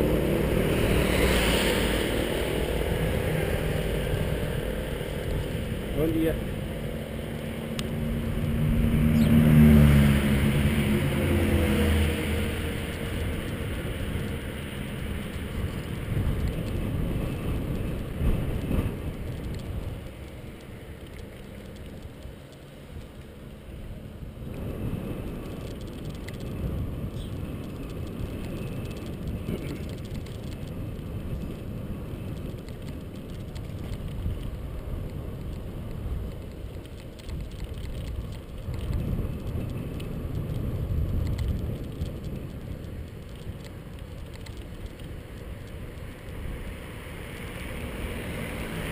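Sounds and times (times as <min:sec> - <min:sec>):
bike tyre and road rumble: 0:00.0 - 0:48.9
wind buffeting microphone: 0:00.0 - 0:48.9.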